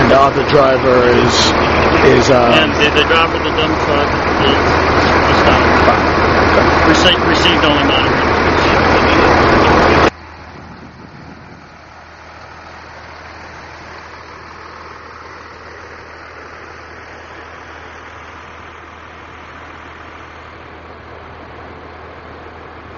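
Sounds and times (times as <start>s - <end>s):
vehicle engine idling: 0.0s - 22.9s.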